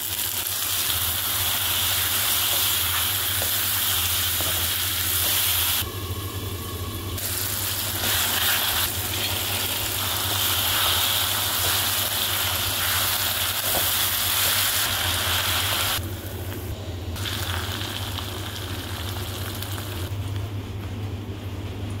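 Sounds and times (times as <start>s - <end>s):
vegetables sizzling in hot oil: 0.0s - 5.8s, 7.2s - 16.0s, 17.2s - 20.1s.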